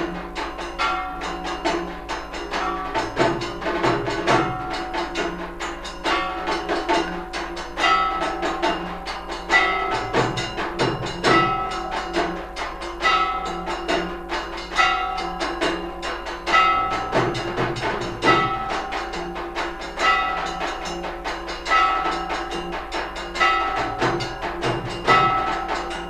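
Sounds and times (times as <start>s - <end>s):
drum beats: 0.0s - 26.0s
metal percussion struck rapidly: 0.0s - 26.0s
ringing bells: 0.0s - 26.0s.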